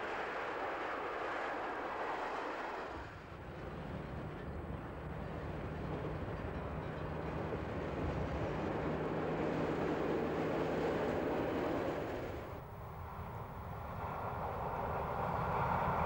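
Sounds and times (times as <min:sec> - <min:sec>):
train wheels rumbling: 0:01.4 - 0:16.0.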